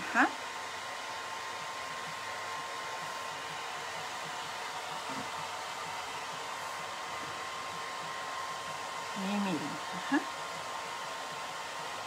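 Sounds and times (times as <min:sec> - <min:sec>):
blower rushing: 0:00.0 - 0:12.0
thin steady whine: 0:00.0 - 0:12.0.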